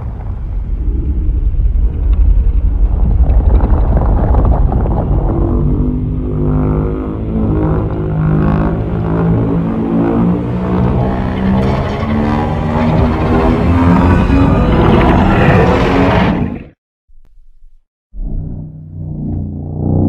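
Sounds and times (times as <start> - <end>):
deep monster rumble: 0.0 - 16.8
dark low music: 0.0 - 20.0.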